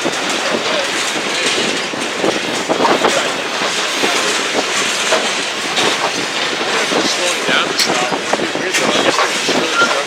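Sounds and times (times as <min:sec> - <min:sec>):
freight train rolling past: 0:00.0 - 0:10.0
wheels clacking over rail joints: 0:00.0 - 0:10.0.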